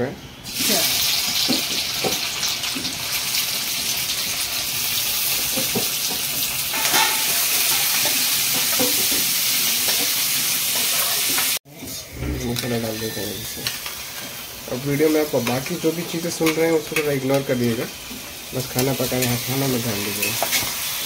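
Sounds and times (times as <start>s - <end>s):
onions sizzling in hot oil: 0.4s - 11.6s, 12.8s - 21.0s.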